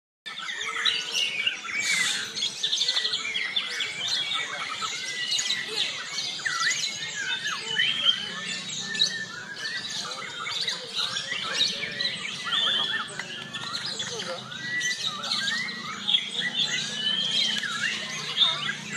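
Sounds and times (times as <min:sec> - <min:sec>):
songbirds singing: 0:00.3 - 0:18.9.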